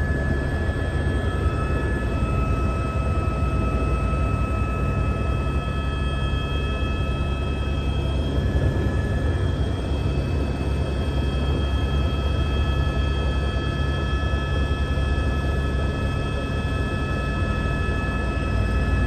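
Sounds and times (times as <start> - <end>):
helicopter engine drone: 0.0 - 19.0.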